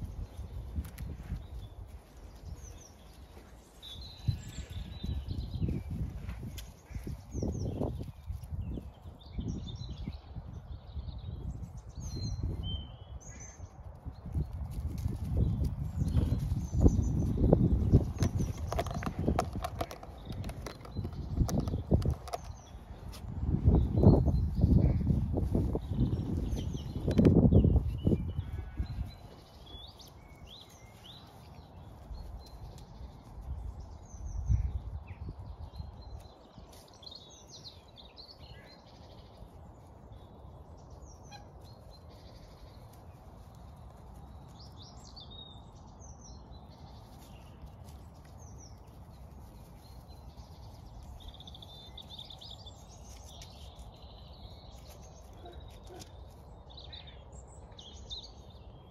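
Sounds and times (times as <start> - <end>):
wild birds singing and chirping: 0.0 - 58.9.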